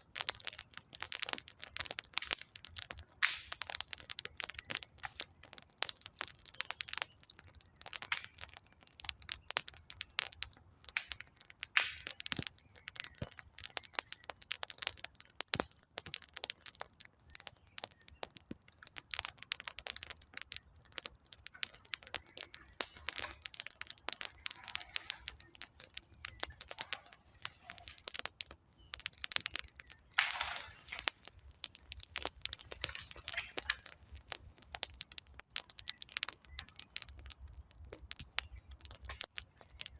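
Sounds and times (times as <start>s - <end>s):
campfire crackling: 0.0s - 39.9s
sharp wood cracks: 0.0s - 39.9s.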